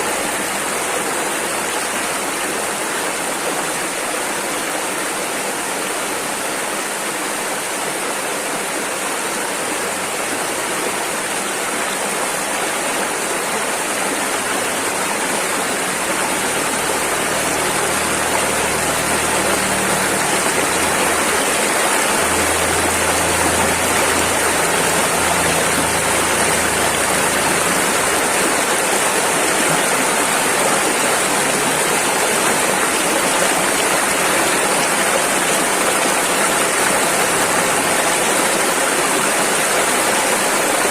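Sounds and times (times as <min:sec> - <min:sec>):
rushing river: 0:00.0 - 0:40.9.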